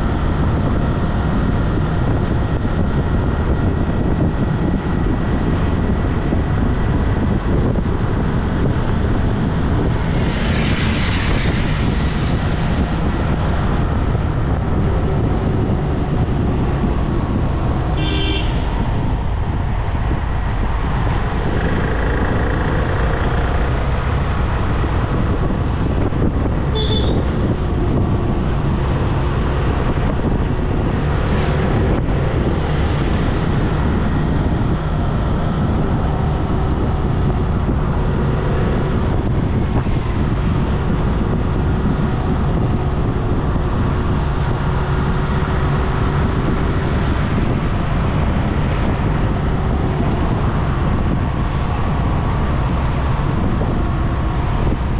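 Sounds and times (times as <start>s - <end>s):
car engine hum: 0.0s - 54.9s
tyre and wind road noise: 0.0s - 54.9s.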